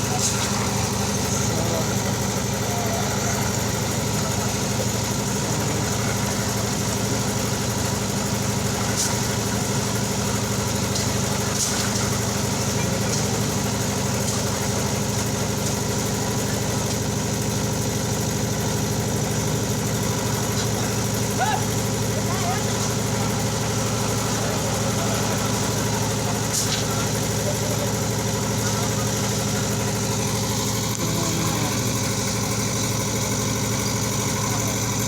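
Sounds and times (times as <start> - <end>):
concrete mixer engine running: 0.0 - 35.0.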